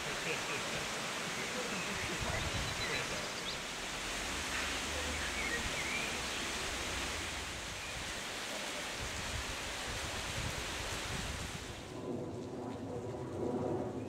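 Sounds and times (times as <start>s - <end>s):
steady outdoor hiss: 0.0s - 12.2s.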